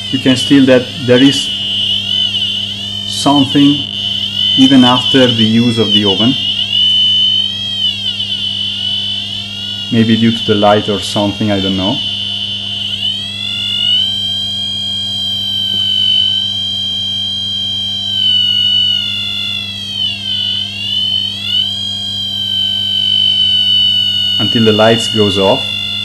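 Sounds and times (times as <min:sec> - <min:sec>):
detector buzzer high tone: 0:00.0 - 0:26.0
steady low hum: 0:00.0 - 0:26.0.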